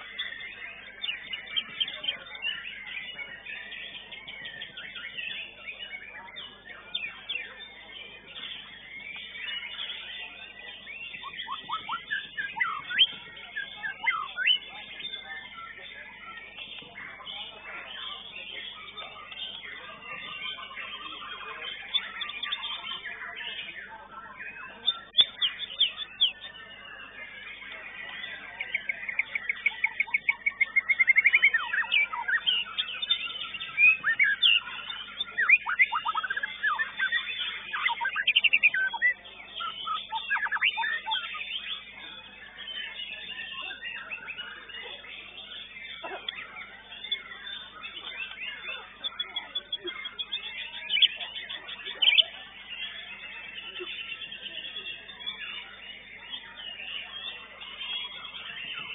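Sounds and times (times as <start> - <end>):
high chatter: 0.0 - 58.9
songbird whistling: 0.0 - 58.9.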